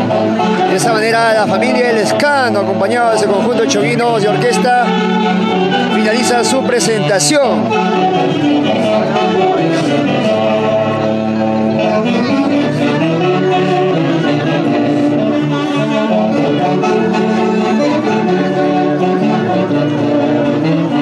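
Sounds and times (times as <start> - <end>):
saxophones and brass orchestra music: 0.0 - 21.0.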